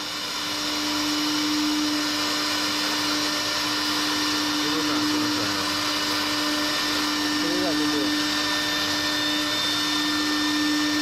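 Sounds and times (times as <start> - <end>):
router spindle whining with hiss: 0.0 - 11.0.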